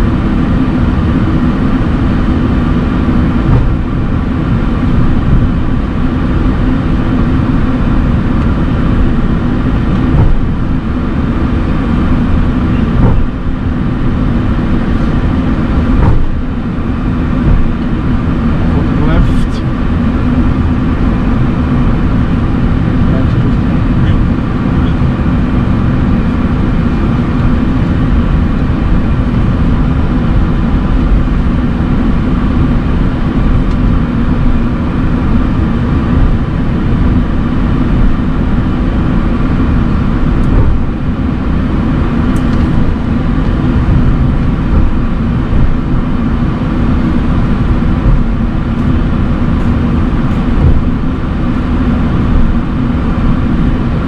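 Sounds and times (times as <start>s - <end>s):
aircraft engines idling rumble: 0.0s - 54.0s.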